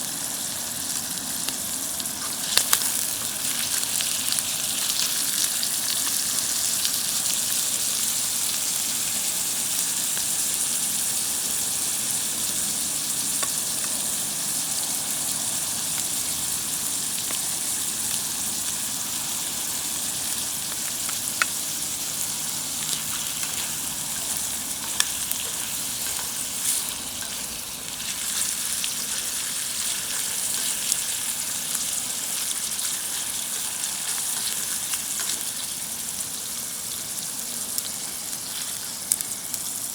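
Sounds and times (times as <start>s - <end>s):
oil sizzling in skillet: 0.0s - 39.9s.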